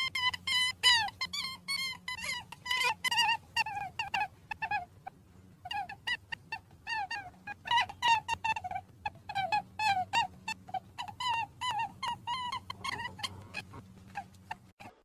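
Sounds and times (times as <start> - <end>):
rabbit squeaking: 0.0 - 14.9.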